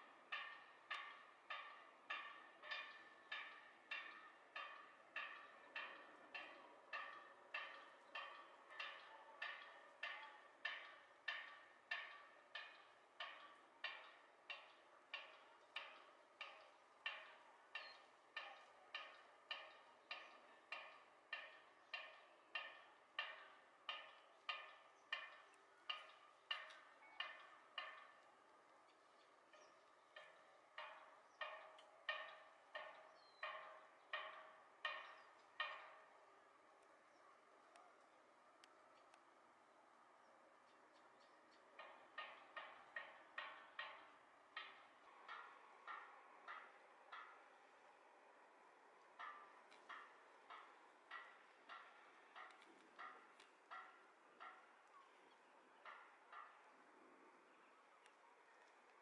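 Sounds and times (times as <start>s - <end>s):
sharp ringing ticks: 0.0s - 36.6s, 41.0s - 56.9s.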